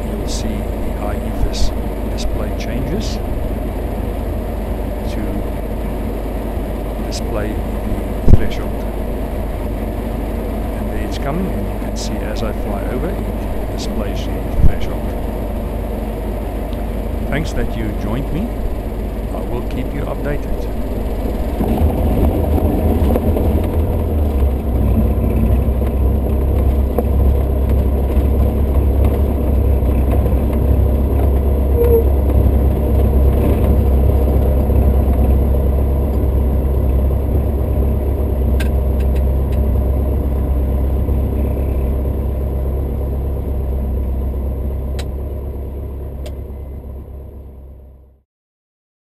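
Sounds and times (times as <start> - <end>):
aircraft engine drone in cabin: 0.0 - 48.2.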